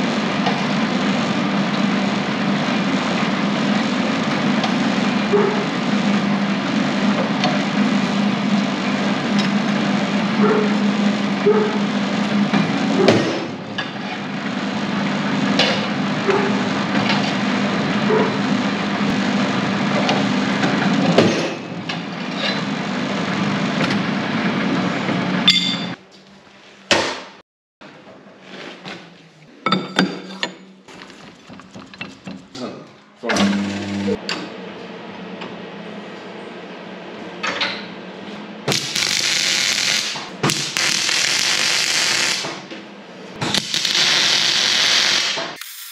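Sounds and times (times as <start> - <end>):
workshop machinery hum: 0.0 - 45.9.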